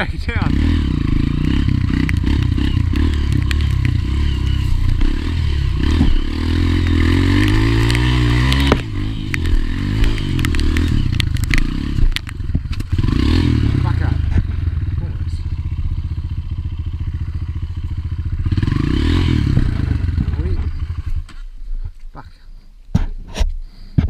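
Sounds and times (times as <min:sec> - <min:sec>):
motorbike engine revving: 0:00.0 - 0:21.4
motorbike rattling: 0:00.0 - 0:21.6.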